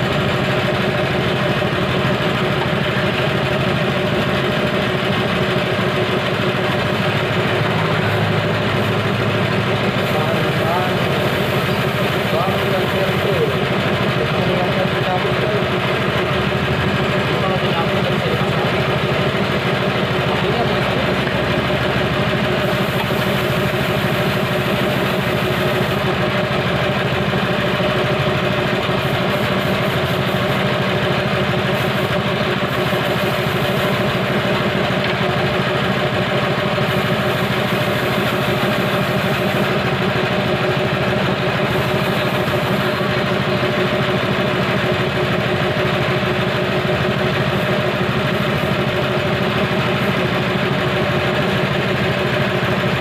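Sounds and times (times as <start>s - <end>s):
small petrol engine idling: 0.0s - 53.0s.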